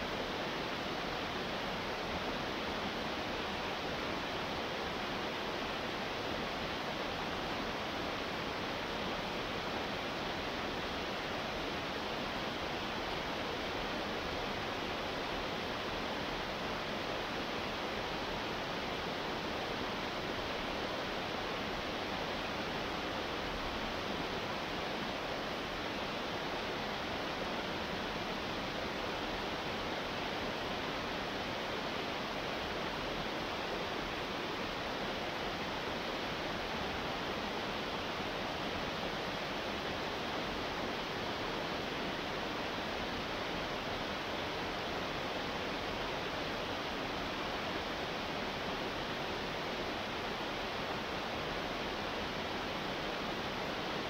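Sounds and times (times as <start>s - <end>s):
waterfall cascading over rocks: 0.0s - 54.0s.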